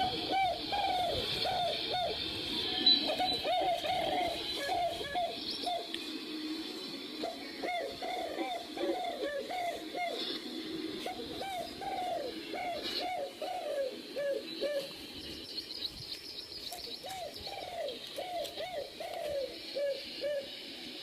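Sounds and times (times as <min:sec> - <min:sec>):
bird low hooting notes: 0:00.0 - 0:21.0.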